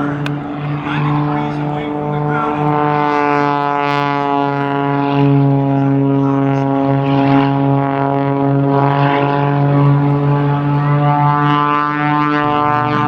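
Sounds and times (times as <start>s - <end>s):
plane engine and propeller droning: 0.0s - 13.0s.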